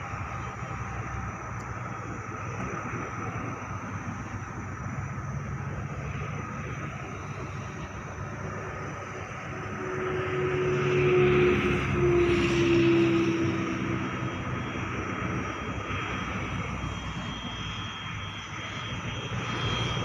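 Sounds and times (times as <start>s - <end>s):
propeller aircraft drone: 0.0s - 20.0s
steady whining tone: 0.0s - 20.0s.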